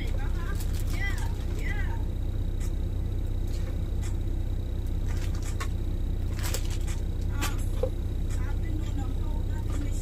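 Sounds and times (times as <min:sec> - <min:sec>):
truck engine rumble: 0:00.0 - 0:10.0.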